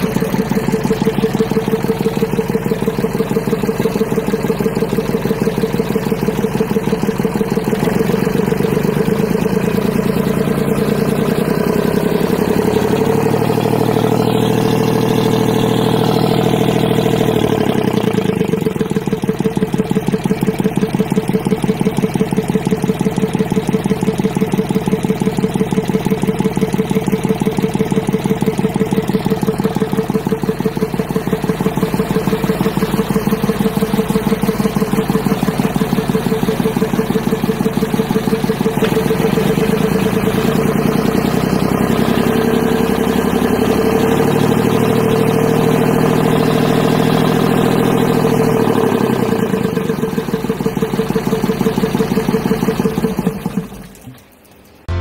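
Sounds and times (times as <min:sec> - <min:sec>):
diesel engine idling and revving: 0:00.0 - 0:54.2, 0:54.8 - 0:55.0.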